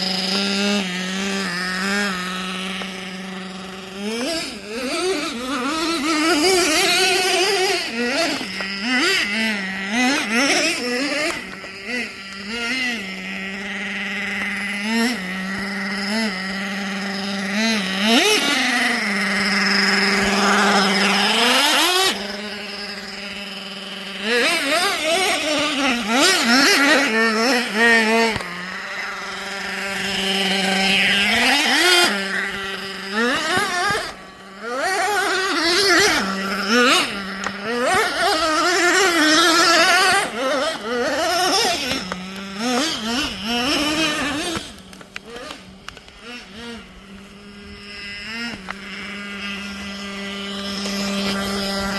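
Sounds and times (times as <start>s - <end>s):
small nitro engine idling: 0.0s - 51.9s.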